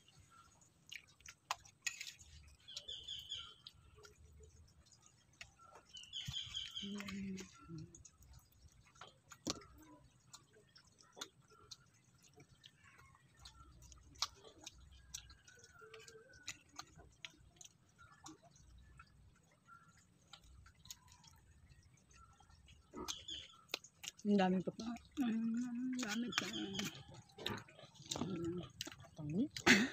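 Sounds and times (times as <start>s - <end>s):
person chewing: 0.0s - 24.3s, 25.0s - 29.9s.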